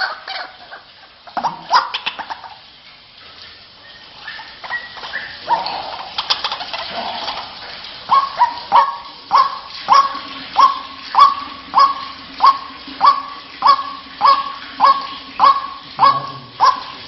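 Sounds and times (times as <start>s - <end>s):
waterhen calling: 0.0s - 17.0s.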